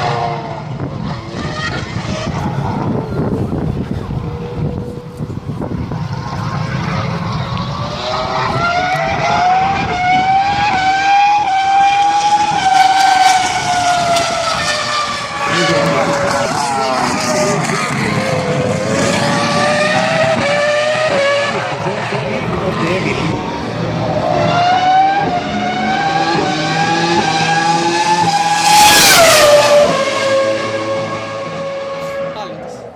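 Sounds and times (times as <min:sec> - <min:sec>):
racing car engine high revs: 0:00.0 - 0:32.9.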